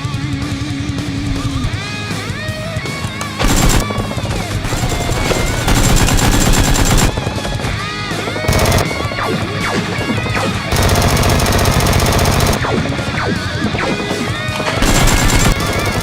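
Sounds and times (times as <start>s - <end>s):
background music: 0.0s - 16.0s
automatic gunfire: 3.0s - 16.0s.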